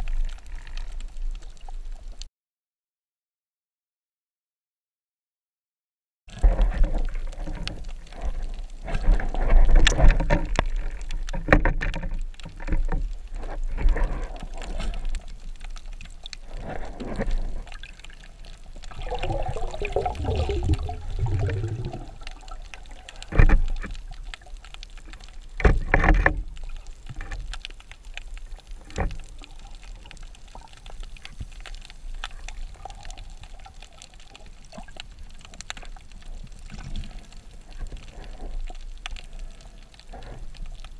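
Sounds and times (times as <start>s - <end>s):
underwater swishing and gurgling: 0.0s - 2.3s, 6.3s - 40.9s.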